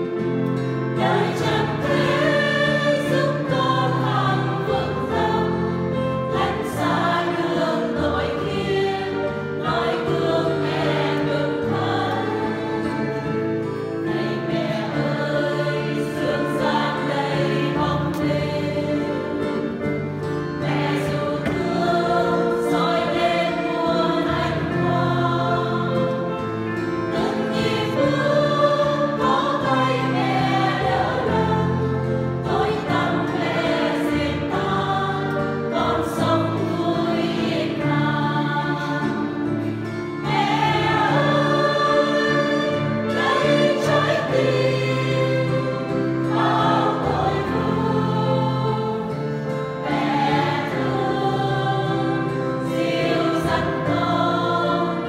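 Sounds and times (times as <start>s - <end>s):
women's choir singing a hymn: 0.0s - 55.0s.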